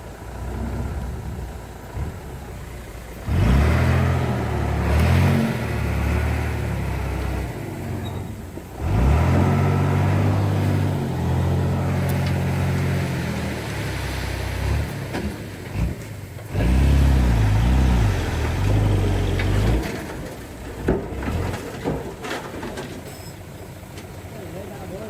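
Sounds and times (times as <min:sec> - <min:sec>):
heavy diesel engine revving: 0:00.0 - 0:20.4.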